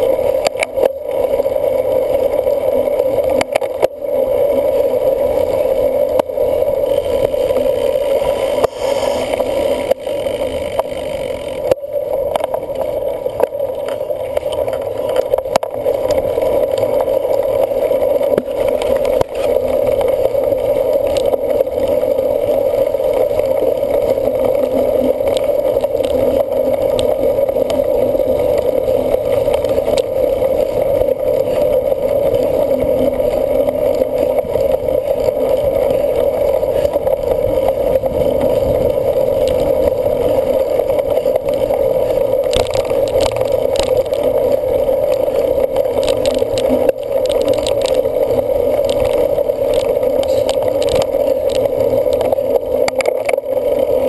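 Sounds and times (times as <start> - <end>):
bicycle rushing noise: 0.0 - 54.0.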